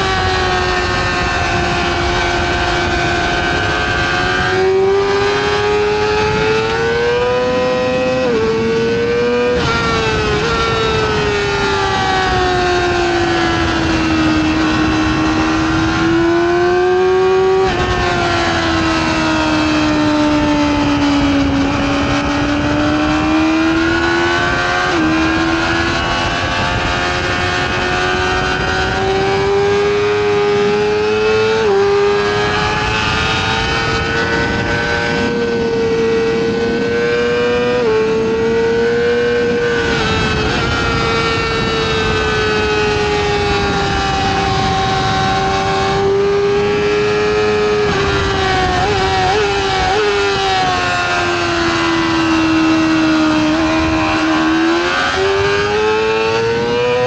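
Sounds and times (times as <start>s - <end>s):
motorcycle engine at high revs: 0.0s - 57.0s
wind noise: 0.0s - 57.0s.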